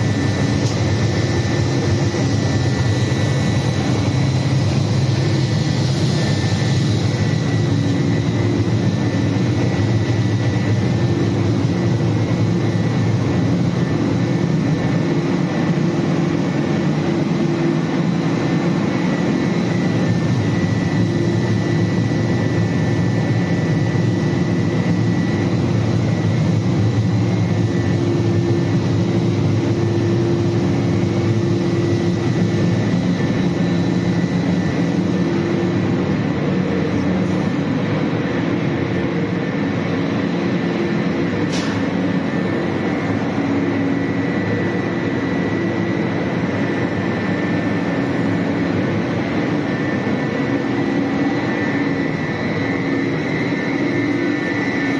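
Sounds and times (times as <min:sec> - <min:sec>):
constant hum: 0:00.0 - 0:54.9.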